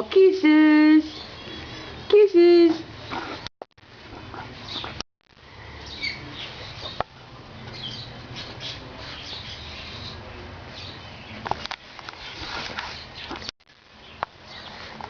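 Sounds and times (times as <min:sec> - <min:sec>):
birds chirping: 0:00.4 - 0:03.4, 0:04.6 - 0:05.0, 0:05.7 - 0:15.0.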